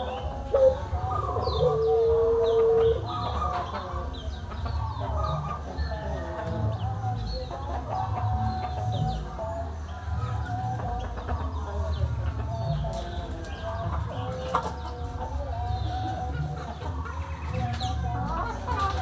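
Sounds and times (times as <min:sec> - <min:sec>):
chickens clucking: 0:00.0 - 0:19.0
small birds chirping: 0:00.0 - 0:19.0.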